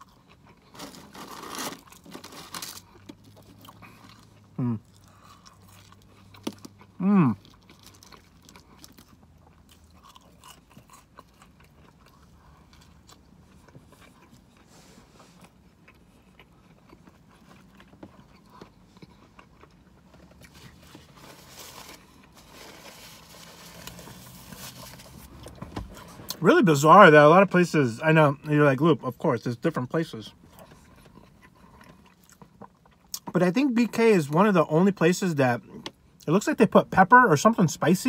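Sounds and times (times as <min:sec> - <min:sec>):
chewing and crunching: 0:00.0 - 0:27.0, 0:28.3 - 0:34.1.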